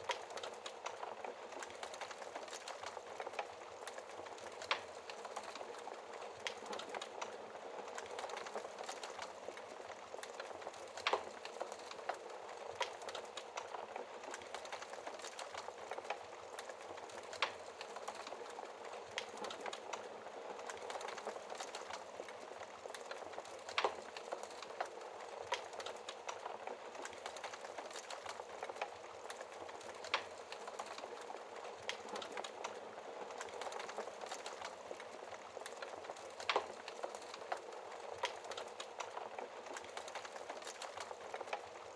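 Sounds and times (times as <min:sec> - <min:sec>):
fire popping and snapping: 0:00.0 - 0:41.9
wood fire crackling: 0:00.0 - 0:41.9.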